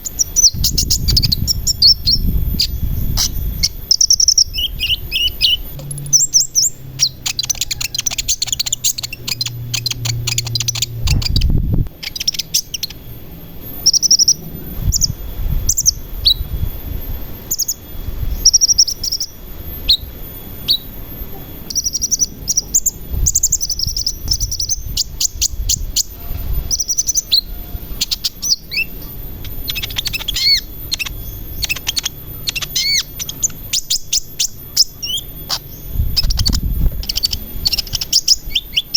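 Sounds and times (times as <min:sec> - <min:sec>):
low hum: 0:00.0 - 0:38.9
sunbird chirps and trills: 0:00.0 - 0:38.9.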